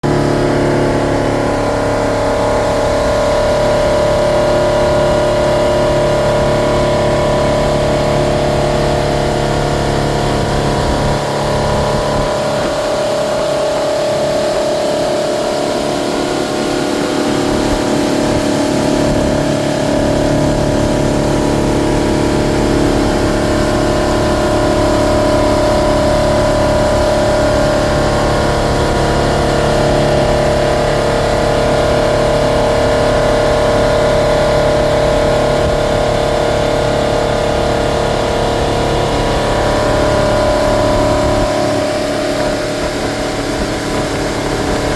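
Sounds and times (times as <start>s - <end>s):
boat engine droning: 0.0s - 44.9s
water rumbling: 0.0s - 44.9s
wind: 0.0s - 44.9s.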